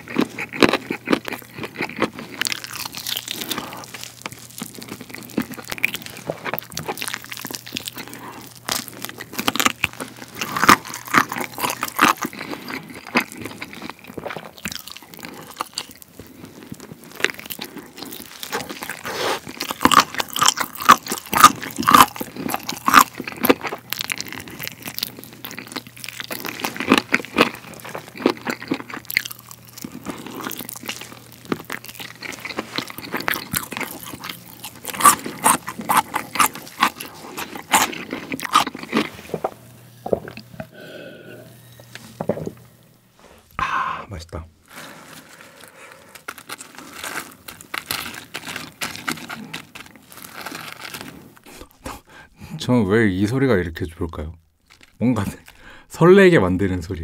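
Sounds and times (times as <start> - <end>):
biting and chewing meat: 0.0 - 41.0, 44.7 - 52.1, 54.4 - 55.7.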